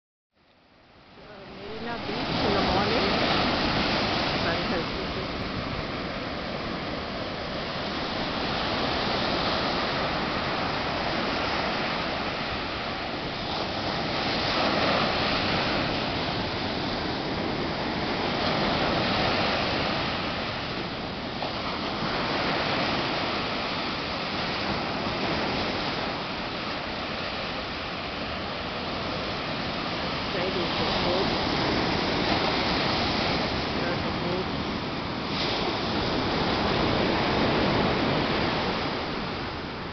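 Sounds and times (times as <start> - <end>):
ocean surf on beach: 0.4 - 39.9.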